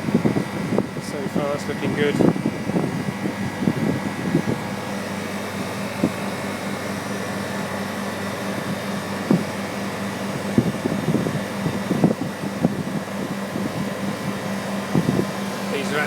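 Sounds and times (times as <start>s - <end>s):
refrigeration unit humming: 0.0s - 16.0s.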